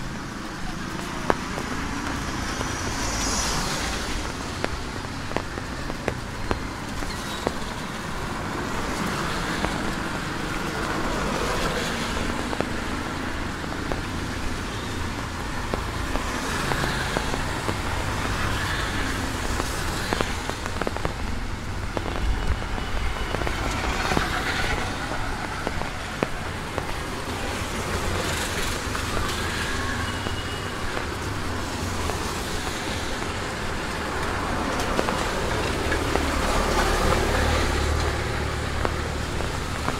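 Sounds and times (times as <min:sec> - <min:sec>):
steady rain: 0:00.0 - 0:39.9
vehicles passing on wet road: 0:00.0 - 0:39.9.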